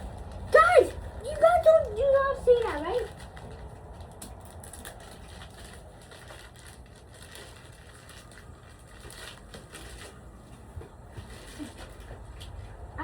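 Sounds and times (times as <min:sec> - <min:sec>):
watermelon rind crackling: 0:00.0 - 0:12.9.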